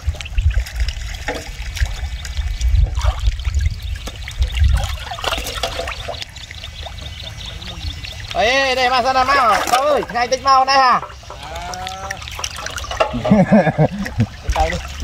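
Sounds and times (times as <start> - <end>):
small splashes and clicks: 0.0 - 7.0, 8.1 - 15.0
water sloshing and trickling: 0.0 - 15.0.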